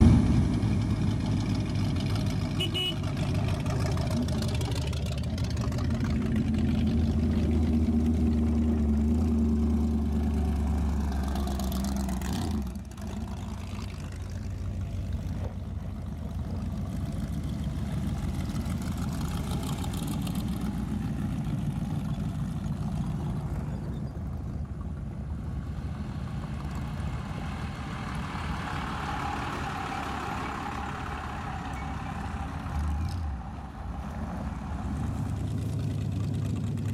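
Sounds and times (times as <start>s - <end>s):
engines rumbling: 0.0s - 36.9s.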